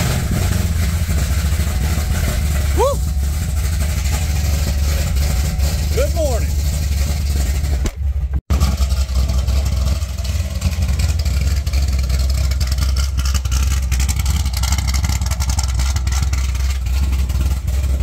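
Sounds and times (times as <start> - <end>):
car engine cruising: 0.0 - 18.0.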